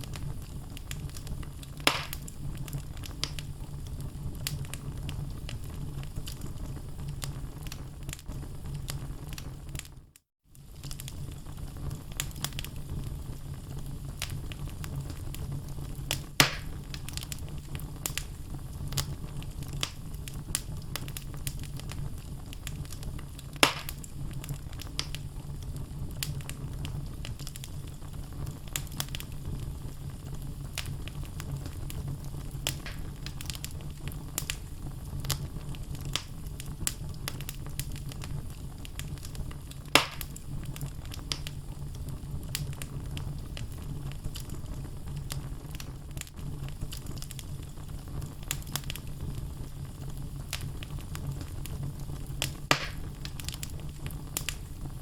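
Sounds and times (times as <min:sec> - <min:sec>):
logs crackling in a fireplace: 0:00.0 - 0:55.0.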